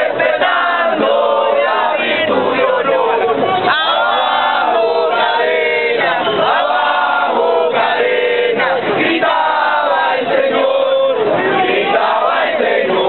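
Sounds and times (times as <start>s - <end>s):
crowd chanting in unison: 0.0s - 13.0s.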